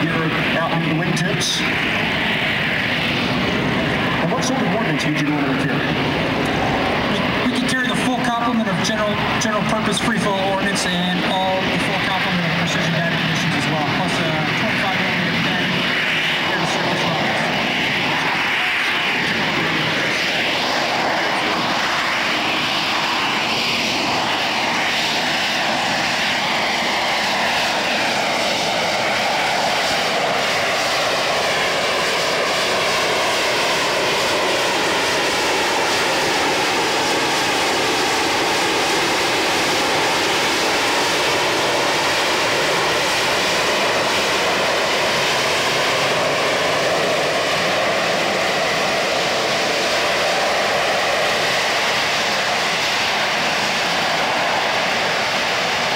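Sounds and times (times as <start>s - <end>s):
jet aircraft hovering: 0.0s - 55.9s.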